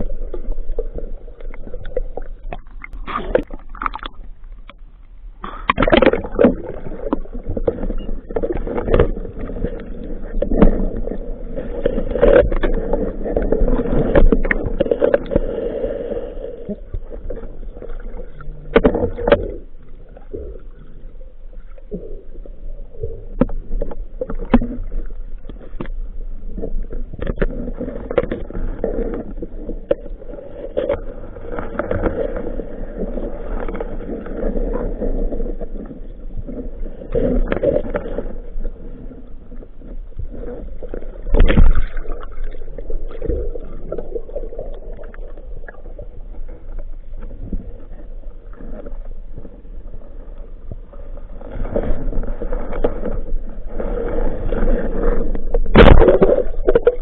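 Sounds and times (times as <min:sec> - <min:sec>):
muffled underwater gurgling: 0:00.0 - 0:57.0.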